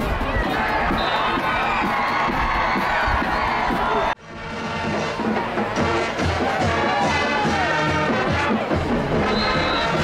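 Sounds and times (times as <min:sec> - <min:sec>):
music playing: 0:00.0 - 0:10.0.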